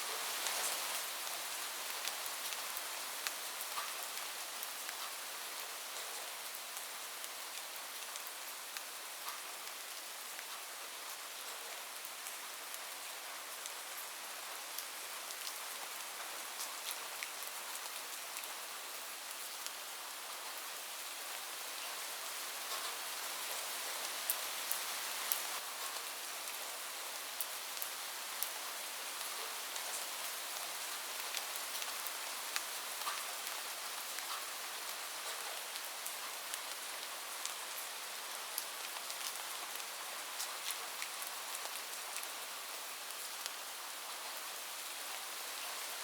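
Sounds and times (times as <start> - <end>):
heavy rain on a roof: 0.0 - 46.0.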